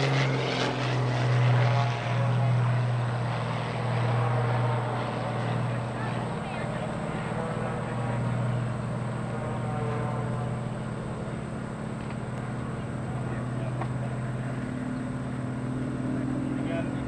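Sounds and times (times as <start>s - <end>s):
biplane engine and propeller droning: 0.0s - 17.0s.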